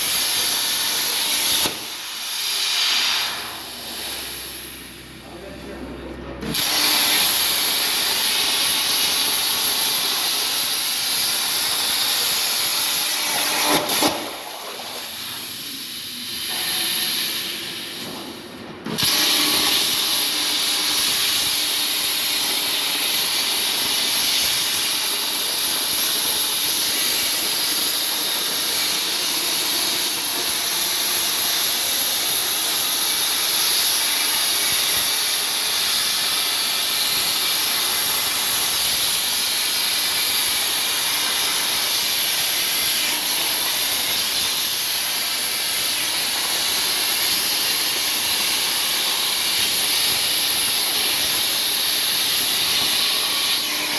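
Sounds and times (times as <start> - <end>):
plasma torch hissing: 0.0 - 5.3, 6.4 - 53.9.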